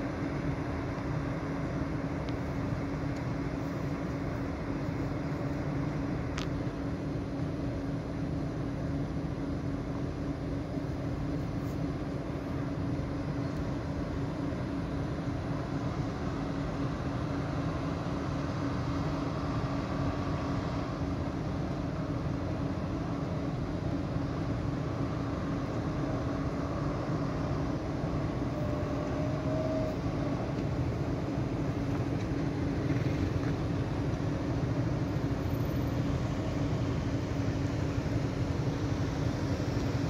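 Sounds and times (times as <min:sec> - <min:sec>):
heavy road vehicles rumbling: 0:00.0 - 0:40.0
steady hum: 0:00.0 - 0:40.0.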